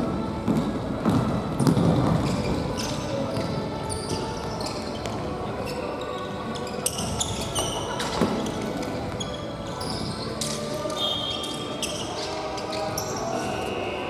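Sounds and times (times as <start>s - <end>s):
shoes squeaking on court floor: 0.5s - 13.8s.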